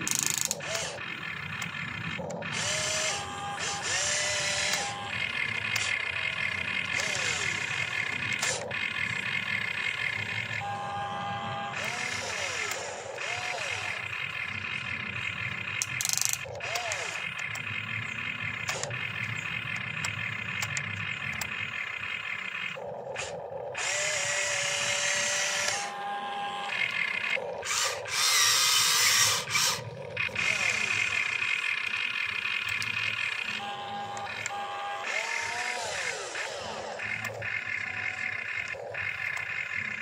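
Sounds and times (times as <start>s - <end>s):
toy excavator motors whining: 0.0s - 40.0s.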